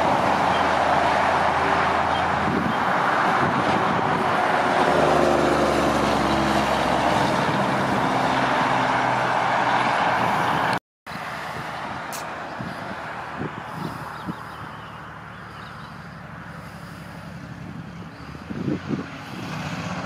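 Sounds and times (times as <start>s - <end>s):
truck diesel engine drone: 0.0s - 20.0s
tyre and road noise: 0.0s - 20.0s.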